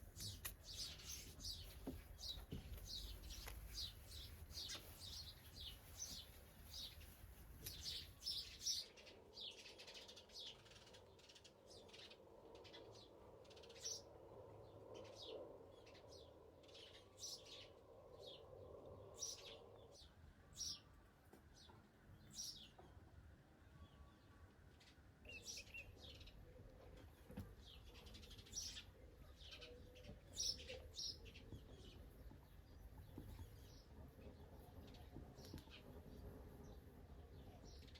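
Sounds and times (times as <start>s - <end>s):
small birds chirping faintly: 0.0s - 37.9s.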